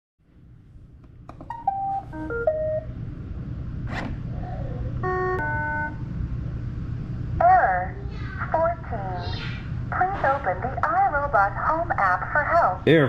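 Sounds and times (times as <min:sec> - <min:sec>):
low hum: 0:00.3 - 0:12.8.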